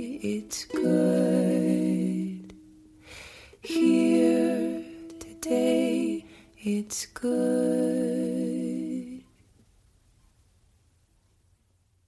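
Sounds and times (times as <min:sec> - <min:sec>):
faint low hum and hiss: 0:00.0 - 0:12.0.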